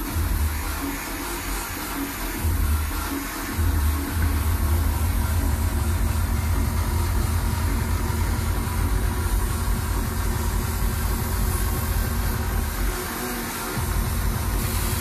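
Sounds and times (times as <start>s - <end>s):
air compressor running: 0.0s - 15.0s
hiss of air: 0.0s - 15.0s.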